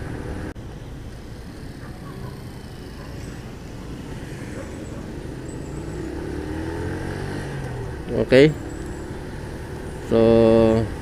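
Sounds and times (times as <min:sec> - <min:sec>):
road and wind noise: 0:00.0 - 0:11.0
motorcycle engine running: 0:01.2 - 0:11.0.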